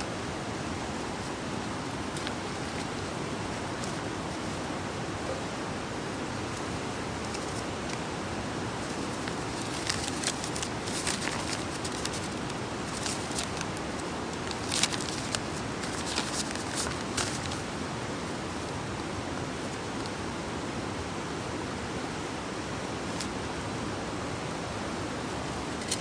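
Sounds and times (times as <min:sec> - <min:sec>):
campfire hiss: 0:00.0 - 0:24.2.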